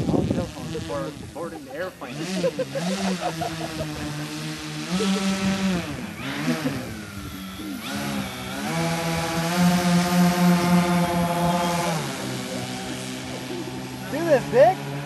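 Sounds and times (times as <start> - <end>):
electric model plane motors whining: 0.0 - 15.0.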